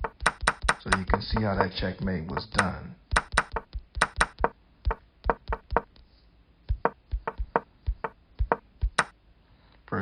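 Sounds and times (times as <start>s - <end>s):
short wooden knocks: 0.0s - 6.0s, 6.7s - 9.1s.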